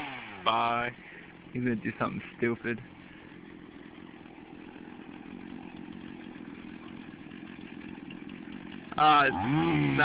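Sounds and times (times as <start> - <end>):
chainsaw running: 0.0 - 10.0.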